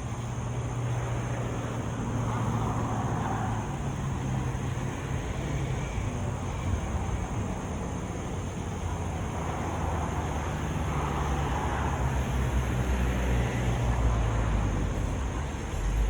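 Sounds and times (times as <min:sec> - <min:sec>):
road traffic noise: 0:00.0 - 0:16.0
engine running at low revs: 0:00.1 - 0:16.0
vehicle passing: 0:00.7 - 0:16.0.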